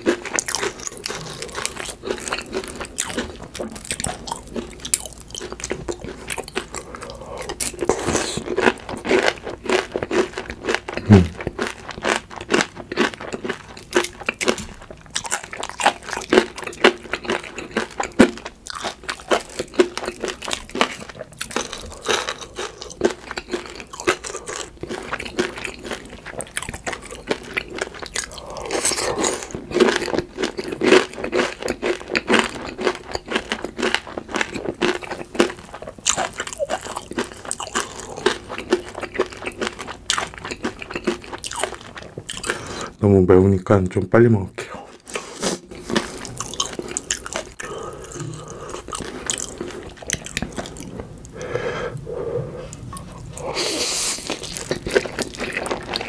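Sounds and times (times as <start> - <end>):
crunching and chewing crispy food: 0.0 - 43.6, 44.6 - 56.0.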